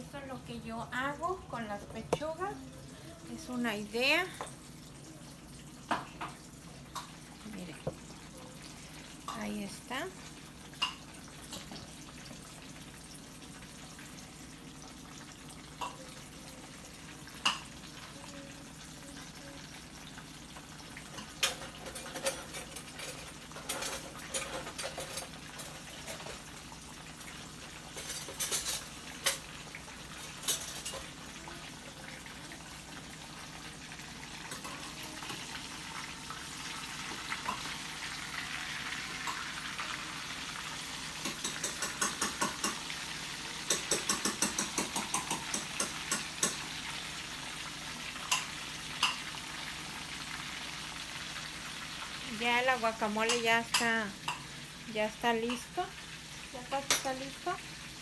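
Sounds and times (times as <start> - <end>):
chicken sizzling in hot oil: 2.3 - 58.0
oil crackles and pops: 5.8 - 52.4.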